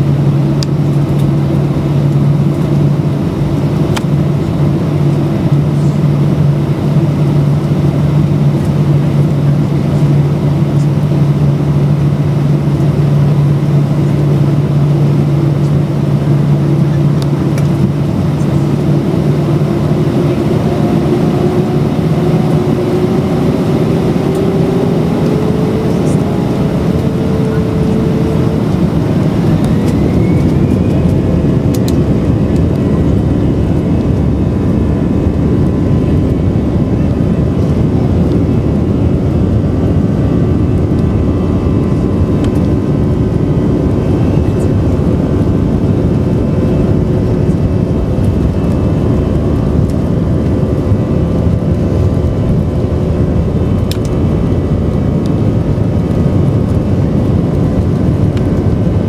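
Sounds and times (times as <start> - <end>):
jet engines whining: 0.0 - 59.0
loud jet engine noise: 0.0 - 59.0.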